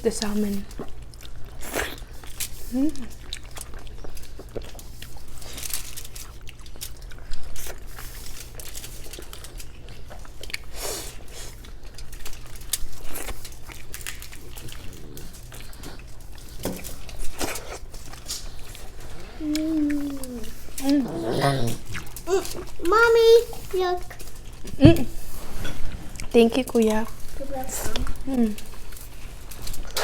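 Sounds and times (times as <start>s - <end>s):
people chewing and biting: 0.2s - 30.0s.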